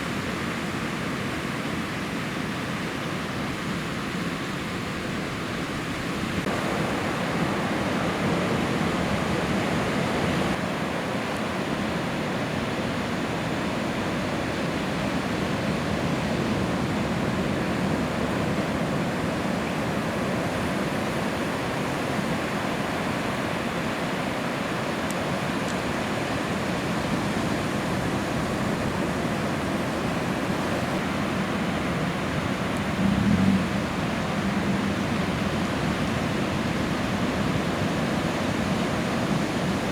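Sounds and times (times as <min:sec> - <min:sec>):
ocean surf breaking: 0:04.2 - 0:39.9.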